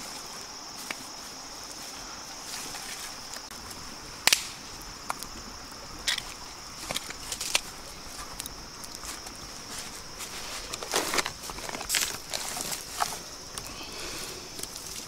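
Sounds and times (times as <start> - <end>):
high drone of insects: 0.0 - 15.0
wood fire popping and snapping: 0.0 - 15.0.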